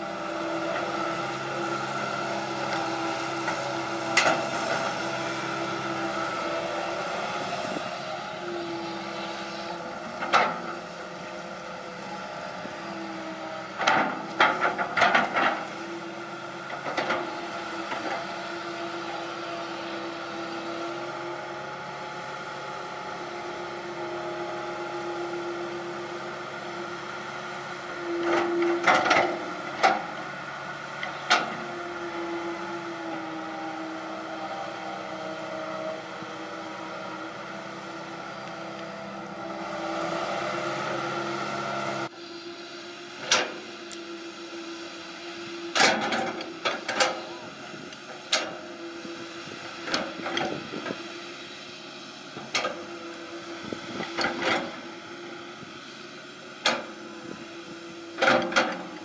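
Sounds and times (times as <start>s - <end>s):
excavator engine humming: 0.0s - 59.0s.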